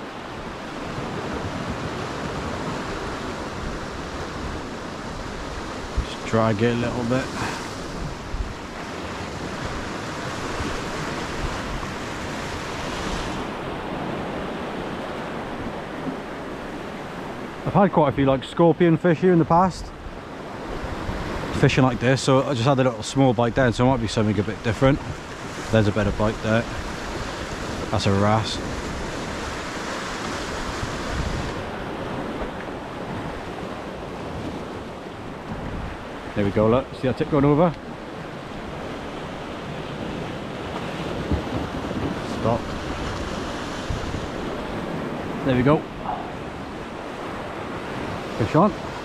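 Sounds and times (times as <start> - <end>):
wind buffeting microphone: 0.0 - 17.6, 23.4 - 36.7, 37.8 - 49.0
surf breaking over rocks: 0.0 - 19.7, 20.5 - 49.0.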